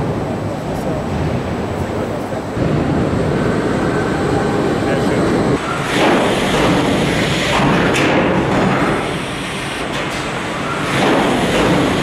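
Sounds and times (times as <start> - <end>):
industrial robot machinery noise: 2.2 - 12.0.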